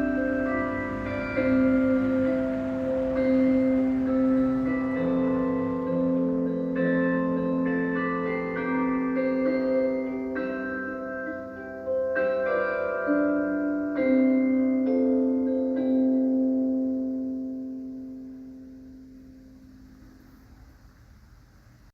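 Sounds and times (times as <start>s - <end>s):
tower bells ringing: 0.0s - 19.4s.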